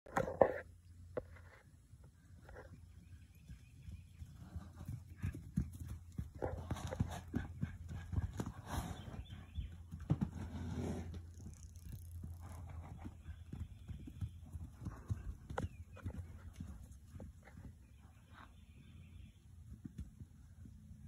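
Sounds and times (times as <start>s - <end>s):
horse hooves trotting on ground: 2.2s - 21.0s.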